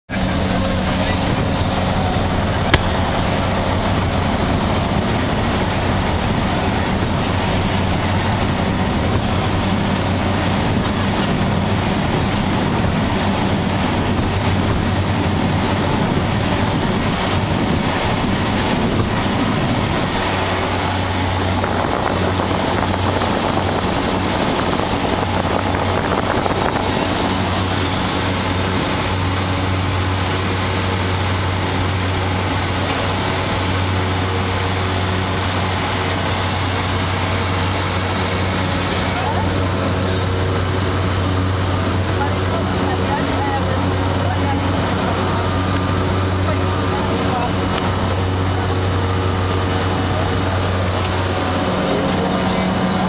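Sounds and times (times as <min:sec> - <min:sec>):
propeller aircraft engine drone: 0:00.0 - 0:53.0.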